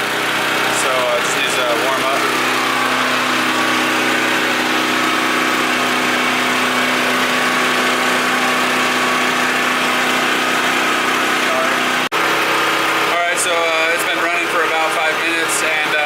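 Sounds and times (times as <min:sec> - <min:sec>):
portable generator running: 0:00.0 - 0:16.0.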